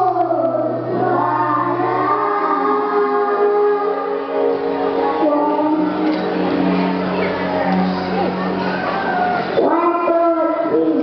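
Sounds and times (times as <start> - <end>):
children singing held notes: 0.0 - 11.0.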